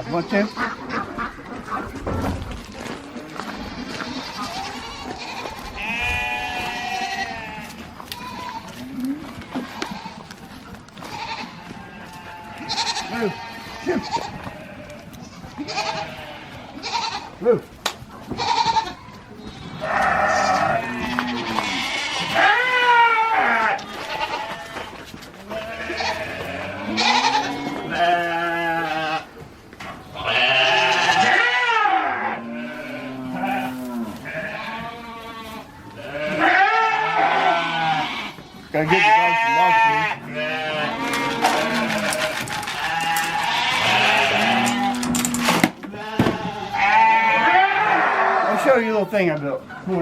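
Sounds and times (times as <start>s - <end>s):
livestock bleating: 3.3s - 10.3s, 11.0s - 17.4s, 18.3s - 29.3s, 30.1s - 49.0s.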